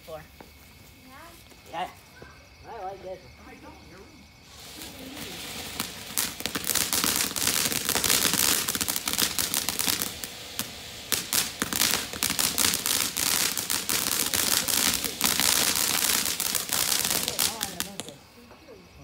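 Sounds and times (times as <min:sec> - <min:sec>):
firework fountain hissing and crackling: 0:02.7 - 0:18.4.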